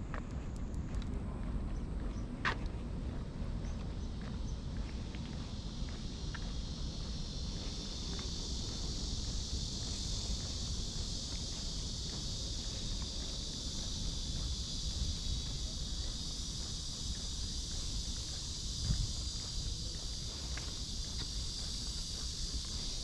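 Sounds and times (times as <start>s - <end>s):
cicadas droning: 0.0s - 23.0s
soft footsteps on a path: 0.0s - 23.0s.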